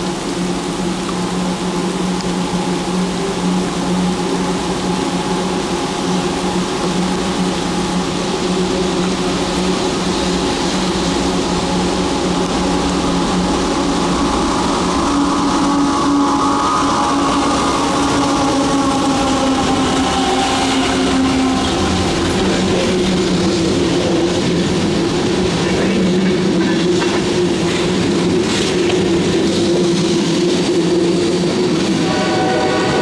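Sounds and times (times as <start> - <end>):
diesel locomotive engines running: 0.0 - 33.0.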